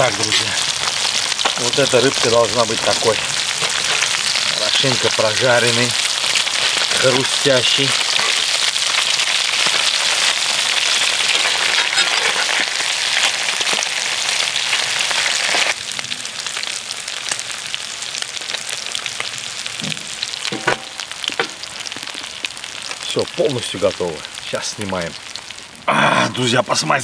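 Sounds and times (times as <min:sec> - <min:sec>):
fish sizzling in hot oil: 0:00.0 - 0:27.0.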